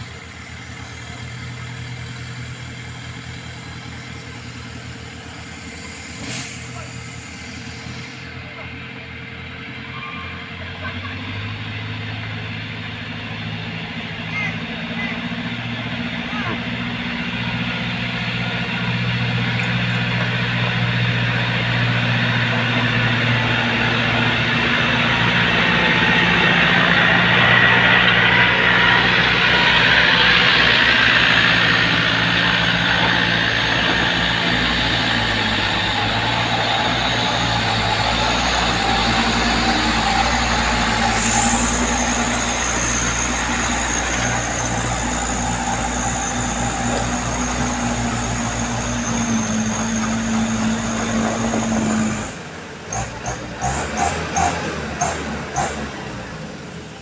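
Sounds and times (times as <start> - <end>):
diesel engines working hard: 0.0 - 57.0.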